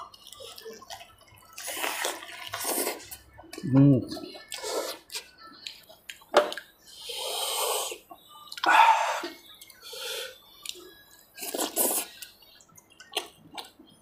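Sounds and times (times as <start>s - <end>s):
wet eating sounds: 0.0s - 9.8s, 10.5s - 14.0s.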